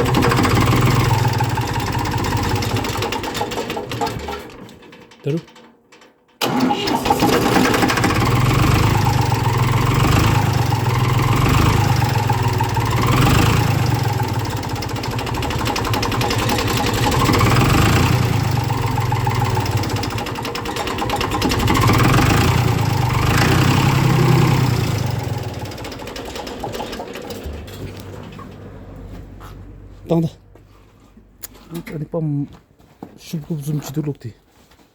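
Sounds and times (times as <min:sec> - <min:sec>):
engine humming: 0:00.0 - 0:05.5, 0:06.4 - 0:32.1.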